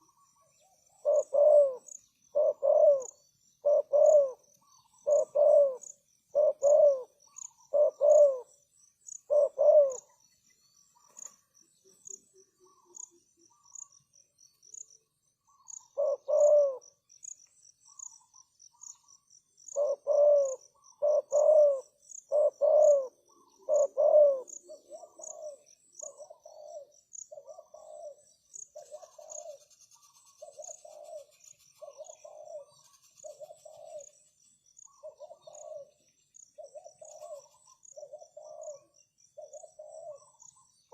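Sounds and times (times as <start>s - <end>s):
dove cooing: 0.0s - 10.2s, 15.5s - 16.9s, 19.7s - 40.9s
faint high chirping: 0.0s - 40.9s.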